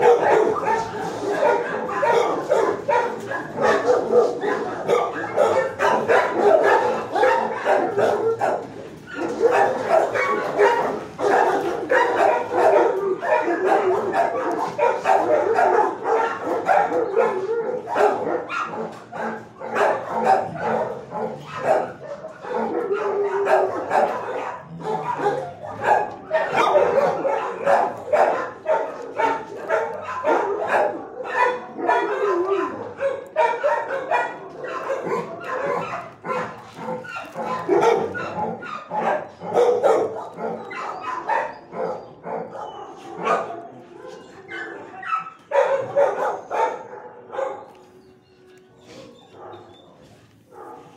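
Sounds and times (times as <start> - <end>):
many dogs barking: 0.0 - 50.9.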